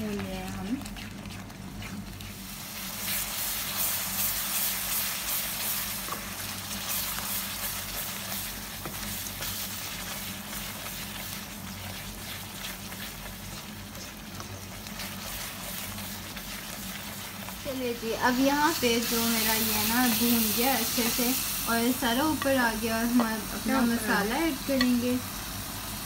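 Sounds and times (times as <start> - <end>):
batter sizzling in oil: 0.0 - 26.0.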